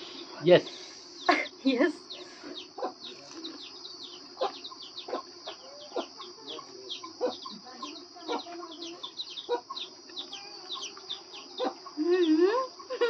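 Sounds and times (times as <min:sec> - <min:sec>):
birds chirping: 0:00.0 - 0:13.0
steady high hiss: 0:00.0 - 0:13.0
chicken clucks: 0:02.0 - 0:13.0.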